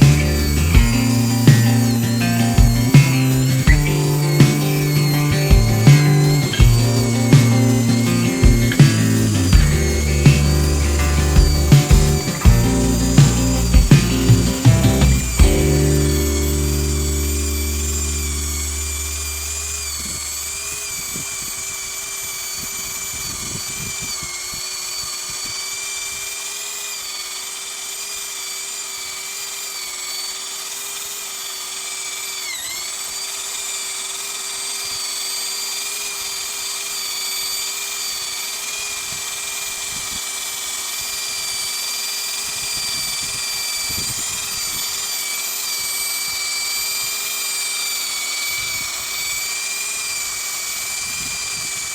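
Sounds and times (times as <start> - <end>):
electric motor whining: 0.0 - 51.9.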